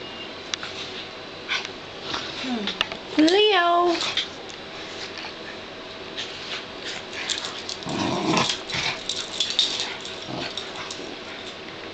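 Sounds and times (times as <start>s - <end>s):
dogs play-growling: 0.6s - 3.0s, 3.9s - 11.8s.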